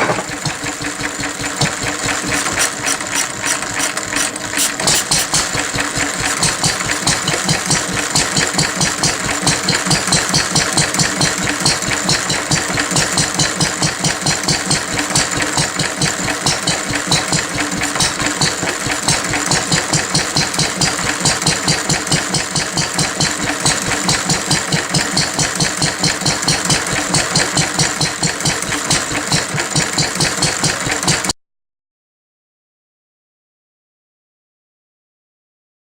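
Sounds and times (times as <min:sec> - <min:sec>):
stationary engine running: 0:00.0 - 0:31.4.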